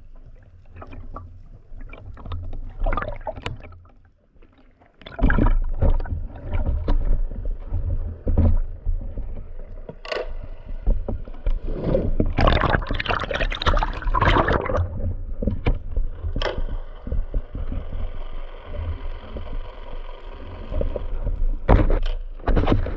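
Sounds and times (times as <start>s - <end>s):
water rushing and bubbling: 0.0s - 9.8s, 10.6s - 21.7s
low underwater rumbling: 0.0s - 22.9s.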